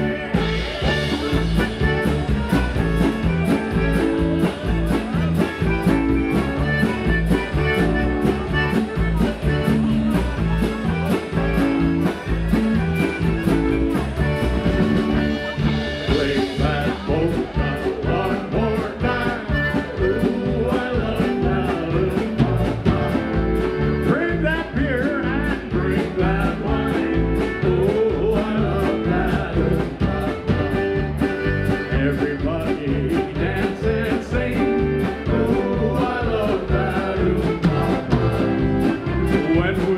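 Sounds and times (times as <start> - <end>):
accordion: 0.0 - 39.9
drum kit: 0.0 - 39.9
electric guitar: 0.0 - 39.9.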